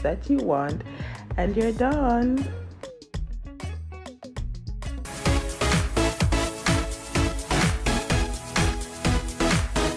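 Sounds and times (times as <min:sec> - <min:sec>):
background music with beat: 0:00.0 - 0:09.9.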